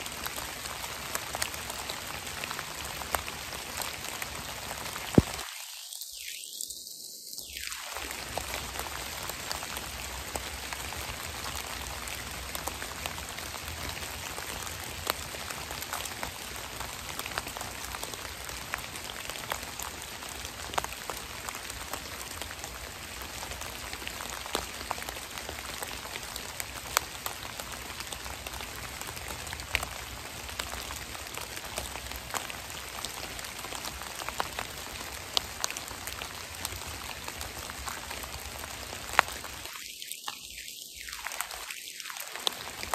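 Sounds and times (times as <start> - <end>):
rain hissing on leaves: 0.0 - 42.9.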